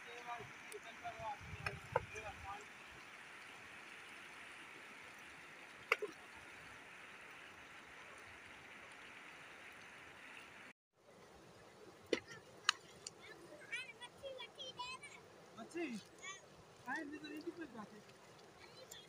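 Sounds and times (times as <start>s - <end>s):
water rushing in a channel: 0.0s - 19.0s.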